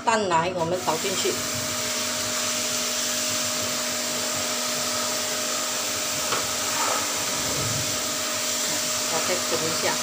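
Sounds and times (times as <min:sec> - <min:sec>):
fan whooshing hum: 0:00.0 - 0:10.0.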